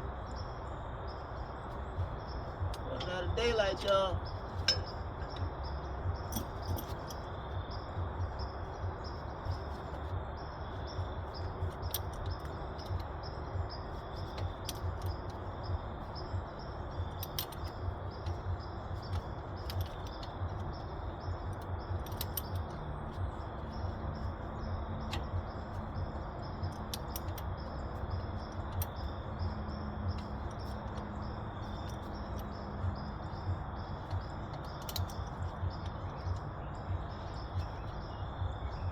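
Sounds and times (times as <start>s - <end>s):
high pulsing chirps: 0.0s - 38.9s
steady low rumble: 0.0s - 38.9s.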